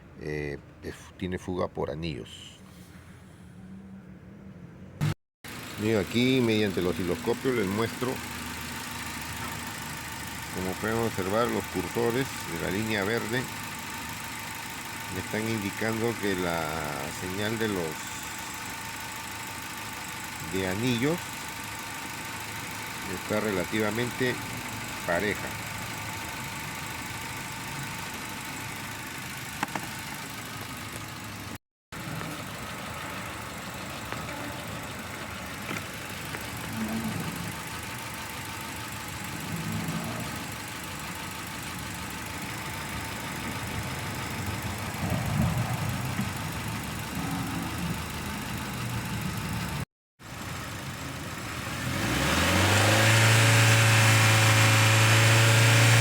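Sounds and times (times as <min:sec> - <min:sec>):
engine revving: 0:05.0 - 0:30.4, 0:32.0 - 0:49.9, 0:50.7 - 0:56.0
car engine idling unevenly: 0:05.5 - 0:56.0.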